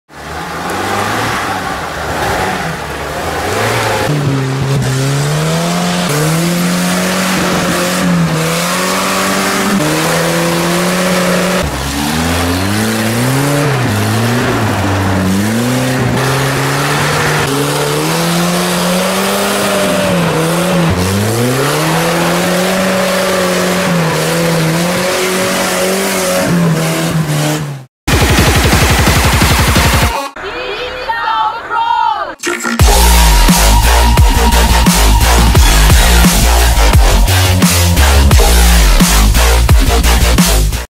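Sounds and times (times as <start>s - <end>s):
off-road engines revving in mud: 0.1s - 27.9s, 32.8s - 40.9s.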